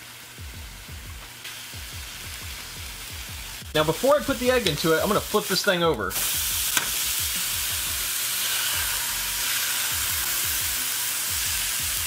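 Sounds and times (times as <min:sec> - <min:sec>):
burger patty sizzling in pan: 0:00.0 - 0:12.0.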